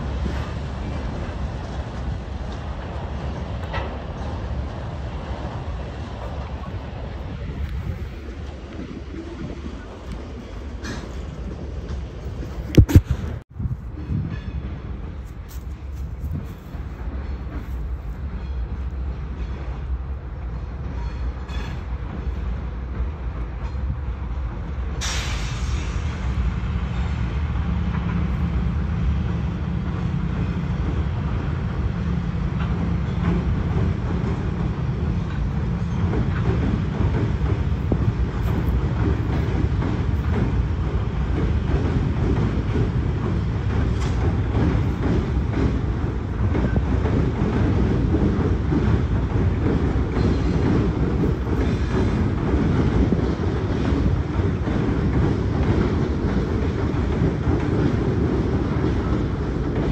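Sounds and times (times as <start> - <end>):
freight train rumbling on rails: 0.0 - 59.9
train wheel clatter: 0.0 - 59.9.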